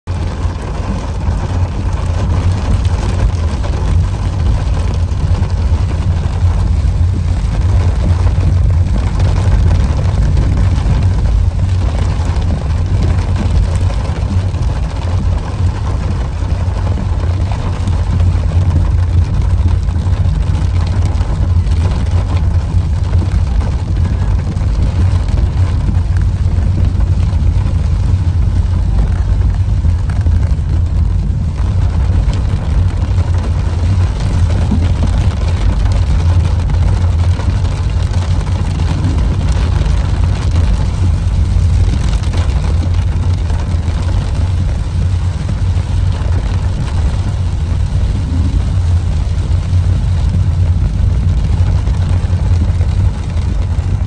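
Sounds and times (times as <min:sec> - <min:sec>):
car rumbling on wet road: 0:00.0 - 0:54.0
heavy rain on car roof: 0:00.0 - 0:54.0.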